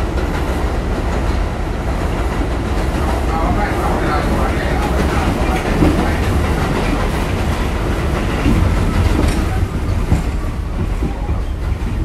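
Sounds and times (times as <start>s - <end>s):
subway car rumble: 0.0s - 12.0s
wheels clacking over rails: 0.0s - 12.0s.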